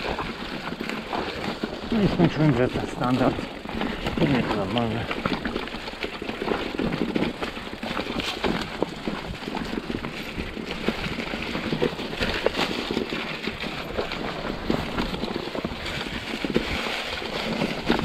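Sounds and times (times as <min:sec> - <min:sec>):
bike knocking and rattling: 0:00.0 - 0:18.0
tyre noise: 0:00.0 - 0:18.0.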